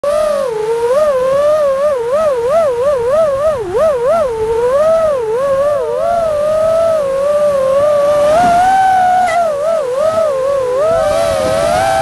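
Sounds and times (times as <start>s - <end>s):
quadcopter motors whining: 0.1s - 12.0s.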